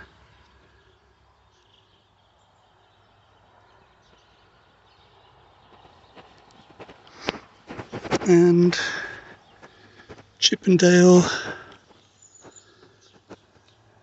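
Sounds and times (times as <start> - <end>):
faint outdoor background hush: 0.0 - 14.0.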